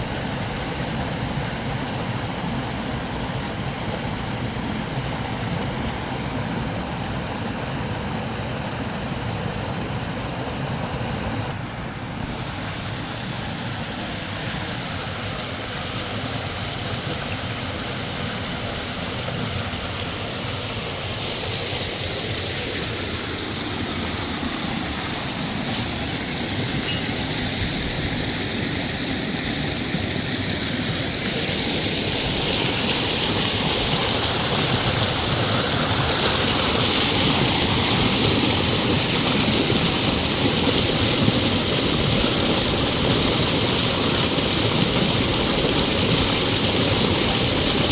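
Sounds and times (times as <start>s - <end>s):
river flowing over rocks: 0.0s - 47.9s.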